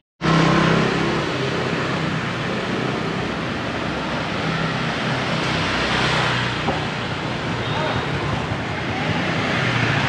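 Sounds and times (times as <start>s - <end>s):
engines humming in traffic: 0.2s - 10.0s.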